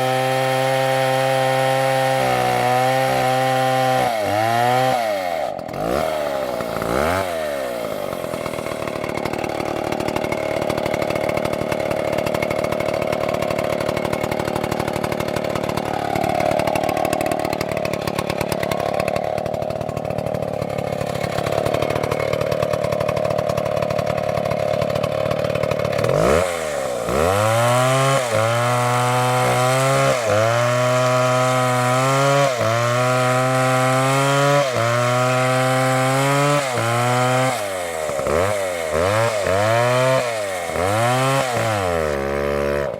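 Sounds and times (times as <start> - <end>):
chainsaw cutting: 0.0 - 42.9.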